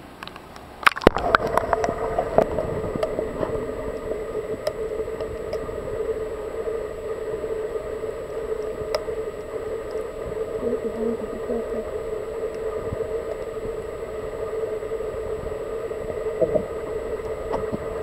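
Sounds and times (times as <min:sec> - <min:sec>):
droning hum underwater: 0:00.0 - 0:18.0
water splashing: 0:00.1 - 0:18.0.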